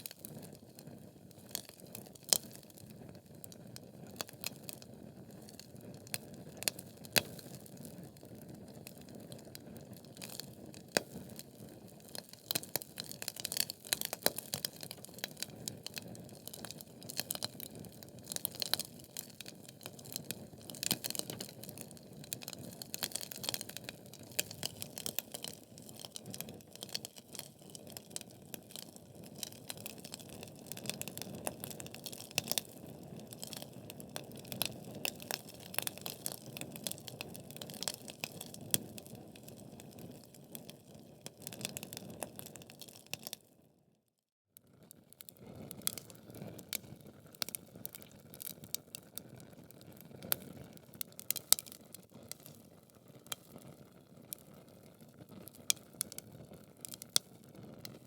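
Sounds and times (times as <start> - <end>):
wood fire crackling: 0.0 - 43.4, 45.3 - 58.0.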